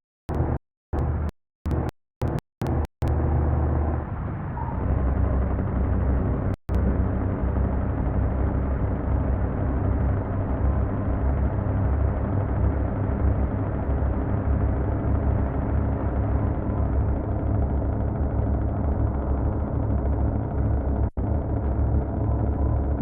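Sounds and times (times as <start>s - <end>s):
diesel truck engine running: 0.3s - 23.0s.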